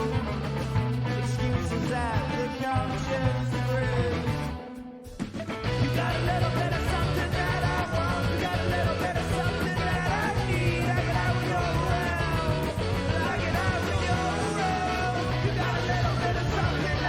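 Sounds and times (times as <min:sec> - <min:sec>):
rock band playing: 0:00.0 - 0:17.0
steady drum beat: 0:00.0 - 0:17.0.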